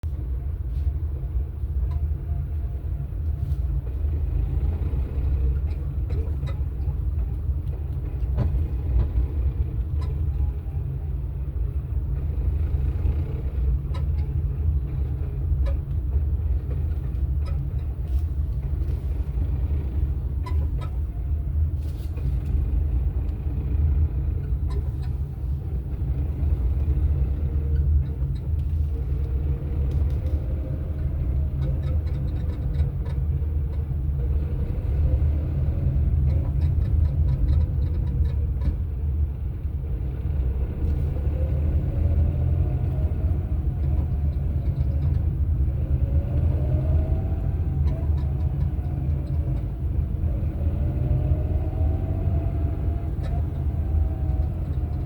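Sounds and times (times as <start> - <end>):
vehicle engine rumbling: 0.0 - 55.0
faint irregular engine ticks: 0.1 - 55.0.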